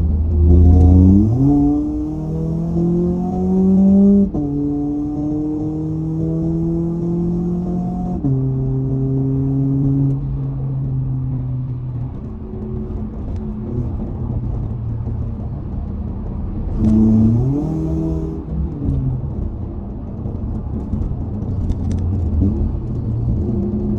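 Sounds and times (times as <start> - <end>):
car engine running: 0.0 - 23.9.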